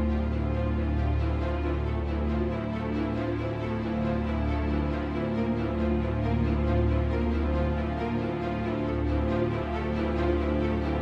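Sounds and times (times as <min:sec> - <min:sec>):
sustained music over deep bass: 0:00.0 - 0:11.0.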